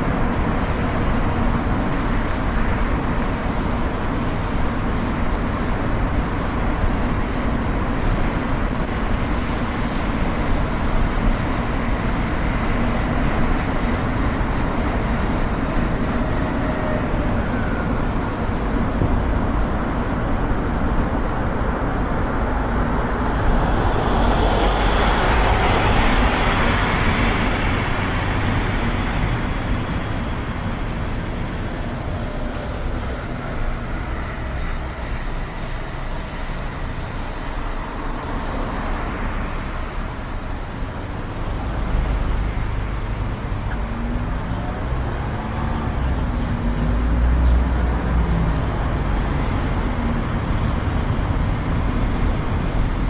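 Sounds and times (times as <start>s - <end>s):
city traffic rumble: 0.0s - 53.0s.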